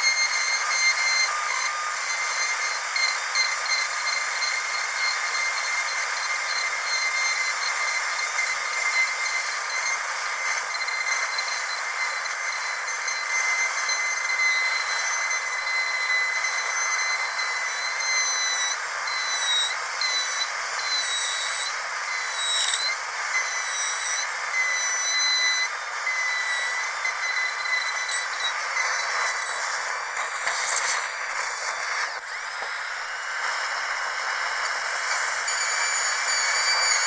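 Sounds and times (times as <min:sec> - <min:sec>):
dental drill whining: 0:00.0 - 0:37.0.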